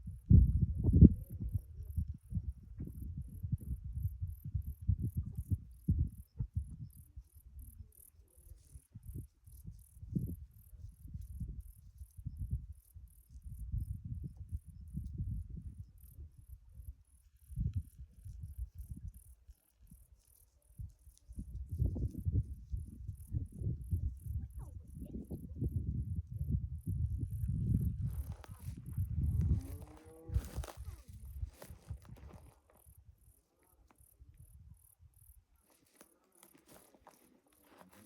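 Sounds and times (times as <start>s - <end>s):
insects chirping: 3.8s - 38.0s.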